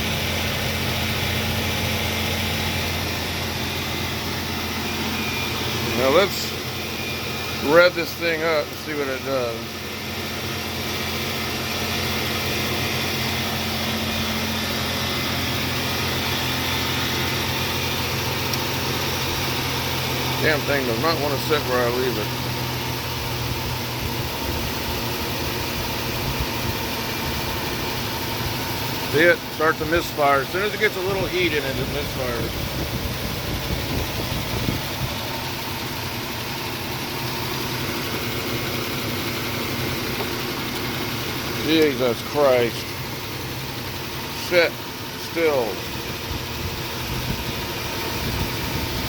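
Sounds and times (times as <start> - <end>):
car engine running at raised revs: 0.0 - 49.0.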